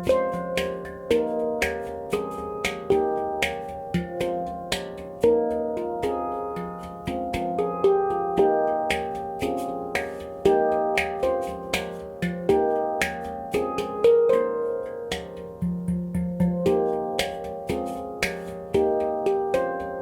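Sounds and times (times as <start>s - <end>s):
handpan played by hand: 0.0s - 20.0s.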